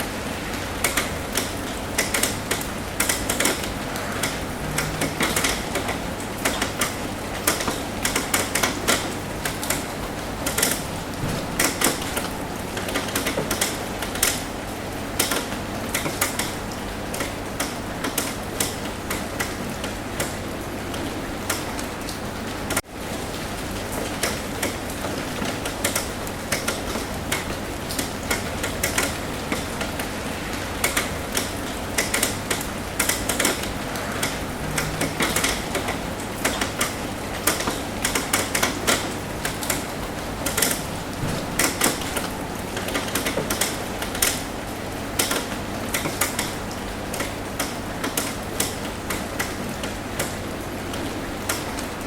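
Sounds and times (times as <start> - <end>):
rain hissing: 0.0 - 45.9
raindrops tapping on a roof: 0.0 - 52.0.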